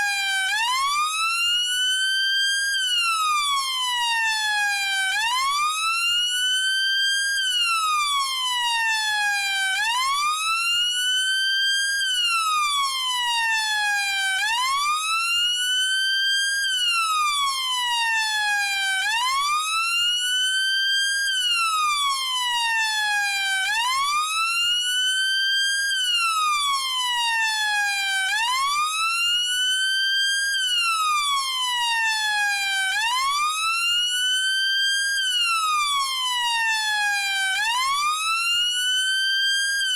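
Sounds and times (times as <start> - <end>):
police siren wailing: 0.0 - 1.8, 2.4 - 39.9.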